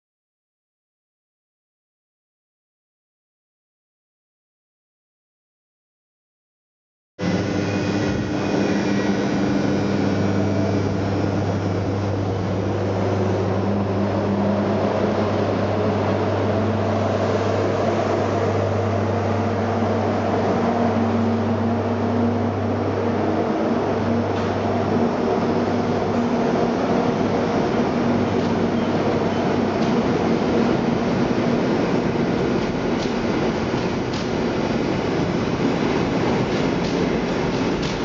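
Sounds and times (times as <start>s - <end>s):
electric locomotive hum: 7.2s - 38.0s
train coaches rolling past: 7.2s - 38.0s.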